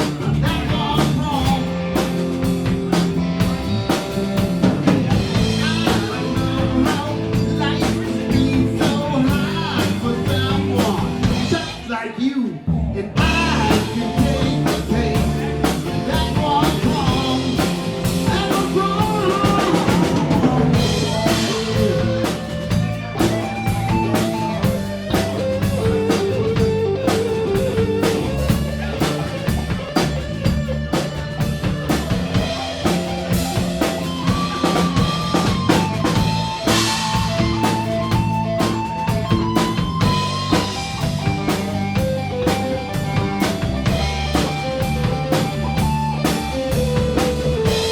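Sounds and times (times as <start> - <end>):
electric guitar melody: 0.0 - 11.8, 13.2 - 47.9
drum kit beat: 0.0 - 11.9, 13.2 - 47.9
bass: 0.0 - 47.9.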